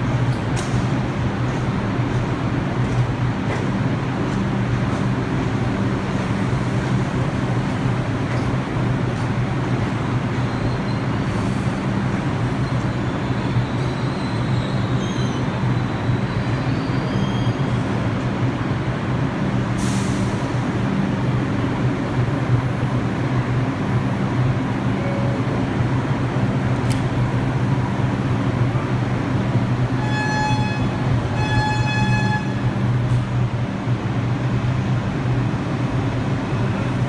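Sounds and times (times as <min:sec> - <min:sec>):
subway train equipment humming: 0:00.0 - 0:37.0.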